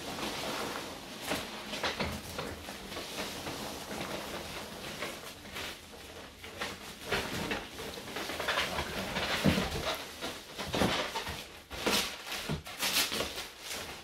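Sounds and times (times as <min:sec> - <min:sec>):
packing material rustling: 0:00.0 - 0:14.0.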